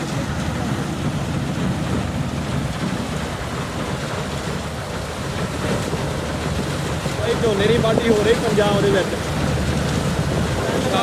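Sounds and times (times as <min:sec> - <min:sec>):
combine harvester rumbling: 0:00.0 - 0:11.0.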